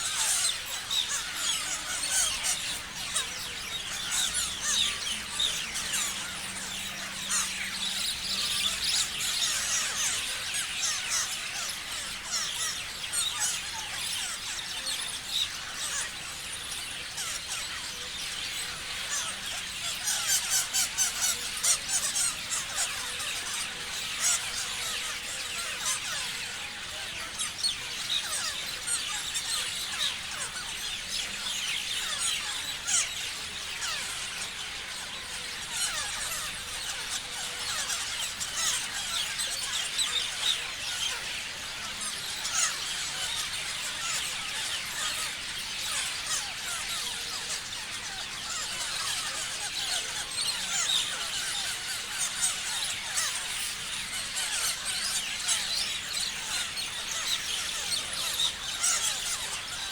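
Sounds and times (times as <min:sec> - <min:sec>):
parrots chirping and screeching: 0:00.0 - 0:59.9.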